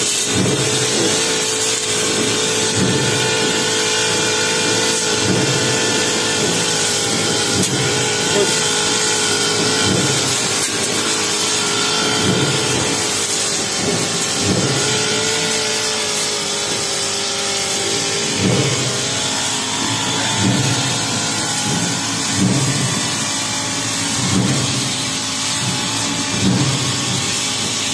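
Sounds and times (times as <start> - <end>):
brush cutter cutting grass: 0.0 - 27.9.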